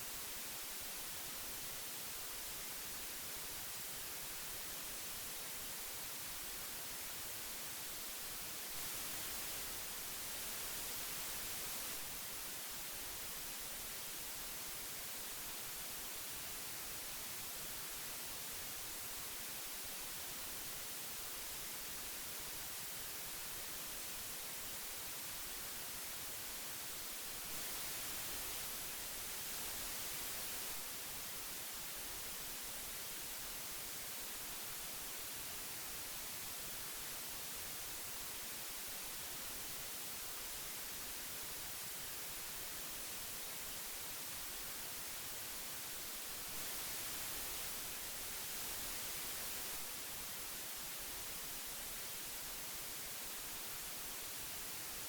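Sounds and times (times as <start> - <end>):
audio tape hiss: 0.0 - 55.0.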